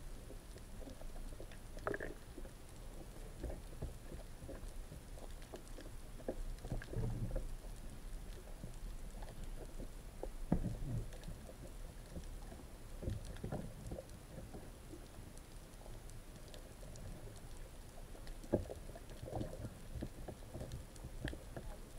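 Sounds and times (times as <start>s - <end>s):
underwater water rumbling: 0.0s - 21.9s.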